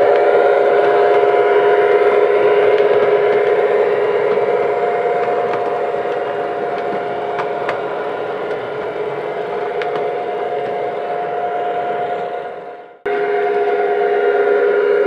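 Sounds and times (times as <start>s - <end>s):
wheels clicking over track: 0.0s - 12.8s
model train running: 0.0s - 15.0s.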